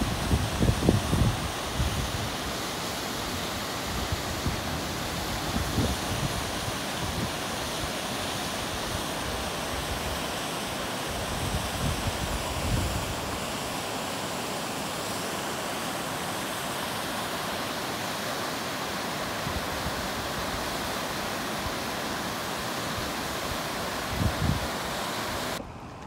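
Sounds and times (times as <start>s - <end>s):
river and waterfall rushing: 0.0s - 25.7s.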